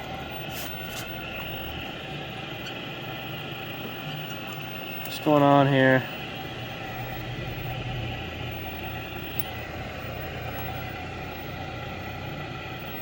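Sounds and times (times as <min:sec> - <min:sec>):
television low hum: 0:00.0 - 0:13.0.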